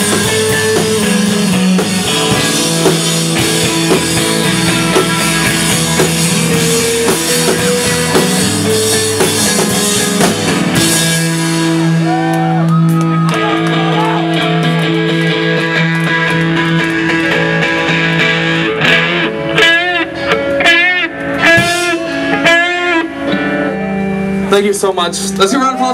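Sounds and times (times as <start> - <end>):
live rock band playing: 0.0 - 25.9
sustained guitar chords: 0.0 - 25.9.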